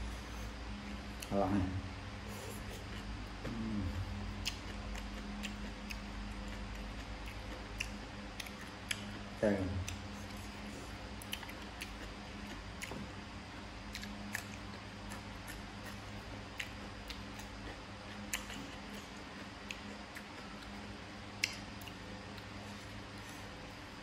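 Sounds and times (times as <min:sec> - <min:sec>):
person chewing wetly: 0:02.3 - 0:23.9.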